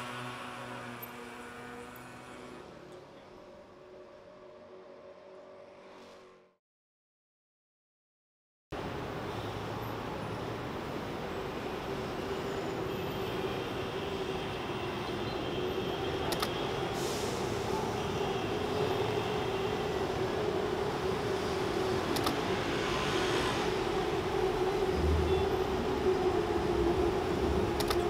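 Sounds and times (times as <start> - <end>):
rumble of vehicles: 0.0 - 6.6, 8.8 - 28.0.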